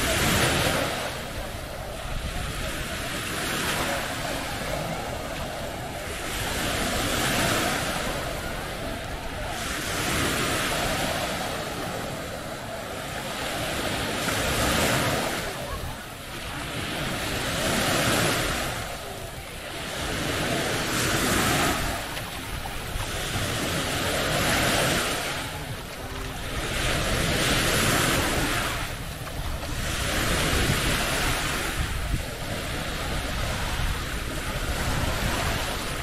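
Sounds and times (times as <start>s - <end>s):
waves washing on sandy shore: 0.0s - 36.0s.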